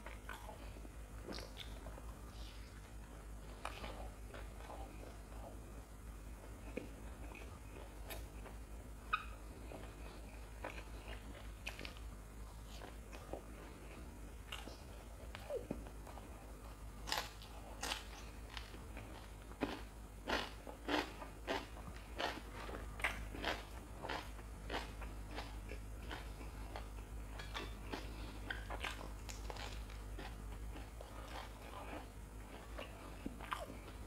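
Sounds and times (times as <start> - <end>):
crunchy fried food chewing: 0.0 - 34.0.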